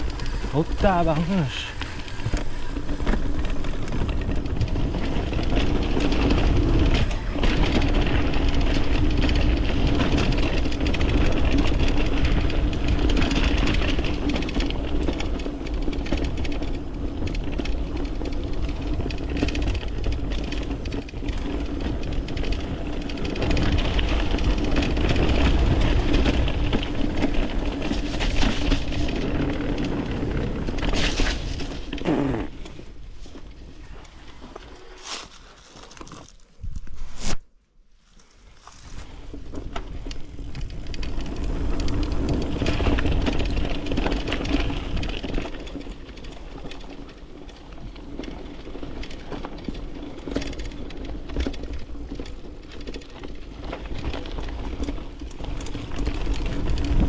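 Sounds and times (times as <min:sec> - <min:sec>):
wind rumble on microphone: 0:00.0 - 0:34.8, 0:38.5 - 0:57.0
bike tyres rattling over rough ground: 0:00.0 - 0:36.9, 0:38.0 - 0:57.0.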